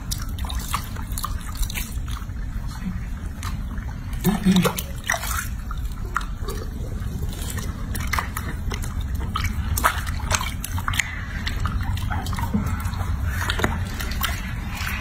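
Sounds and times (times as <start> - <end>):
water drips: 0.0 - 15.0
water splashing in a sink: 0.0 - 15.0.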